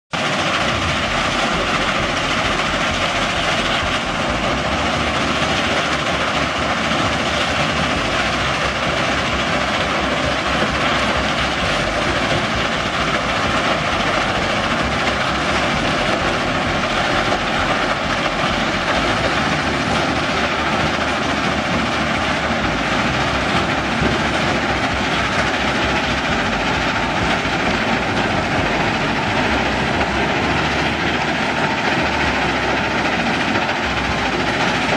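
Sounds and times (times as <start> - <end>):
stone crushing plant rumbling: 0.2 - 34.9.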